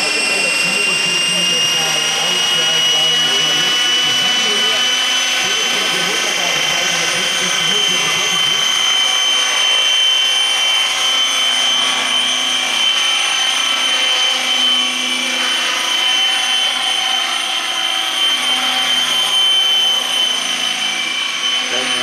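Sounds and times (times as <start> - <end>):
model helicopter whine: 0.0 - 22.0.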